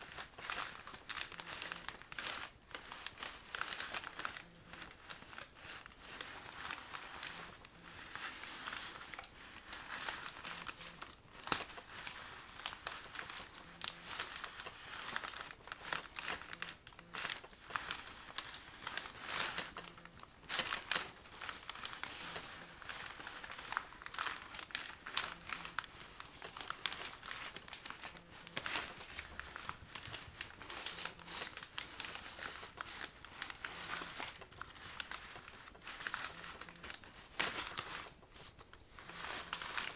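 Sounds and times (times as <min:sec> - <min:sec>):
paper bags crinkling and rustling: 0:00.0 - 0:39.9.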